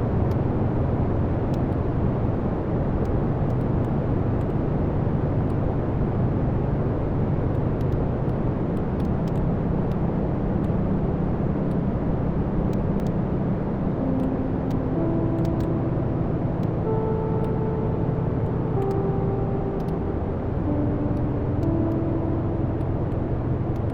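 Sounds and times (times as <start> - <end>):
low rumble of flames: 0.0 - 23.9.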